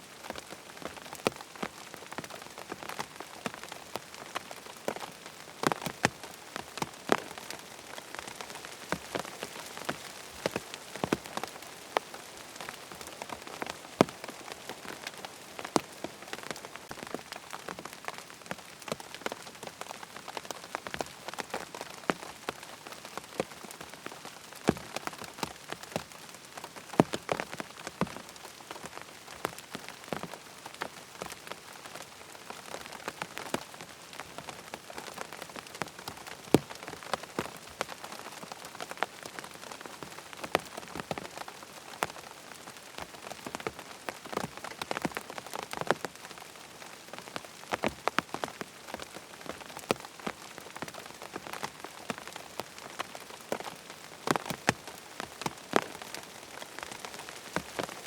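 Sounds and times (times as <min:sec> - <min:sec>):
rain pattering on tent: 0:00.0 - 0:58.0.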